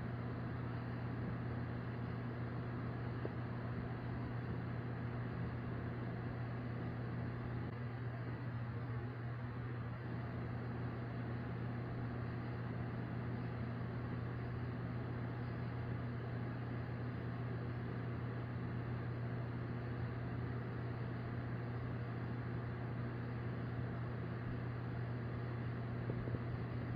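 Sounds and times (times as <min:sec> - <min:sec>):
machine humming and droning: 0:00.0 - 0:26.9.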